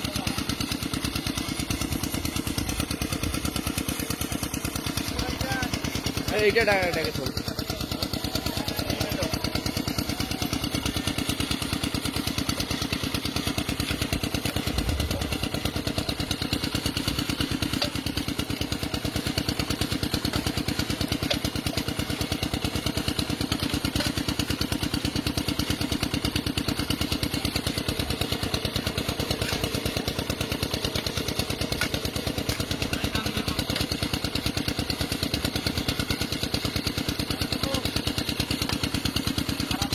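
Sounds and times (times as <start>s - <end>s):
small engine chugging: 0.0s - 39.9s.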